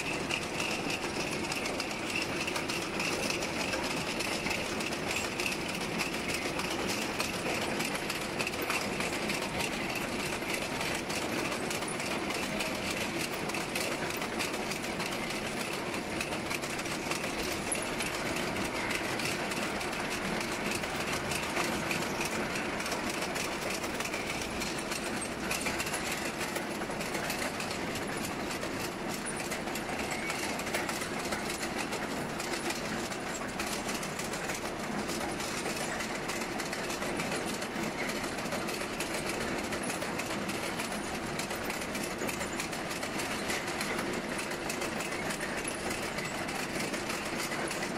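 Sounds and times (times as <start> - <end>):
conveyor line mechanical clatter: 0.0 - 47.9.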